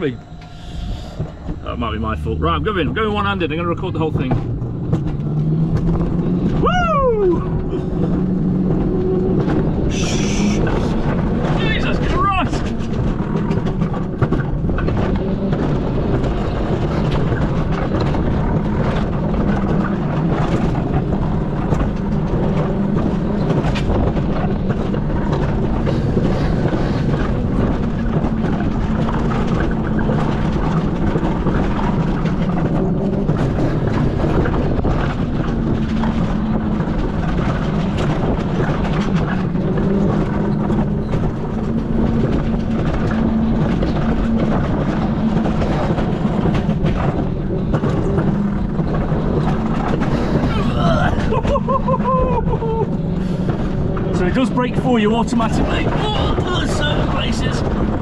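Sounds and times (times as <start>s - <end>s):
coaster wheels rumbling on rails: 0.0s - 58.0s
clicks and rattles: 7.2s - 58.0s.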